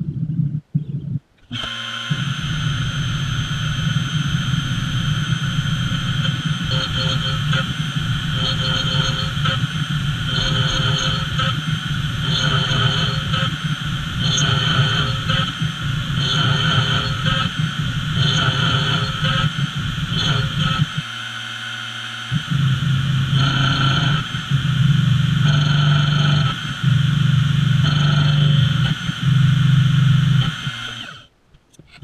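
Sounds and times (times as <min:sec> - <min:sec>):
spindle hum: 0:00.0 - 0:32.0
end mill cutting aluminum: 0:01.4 - 0:31.3.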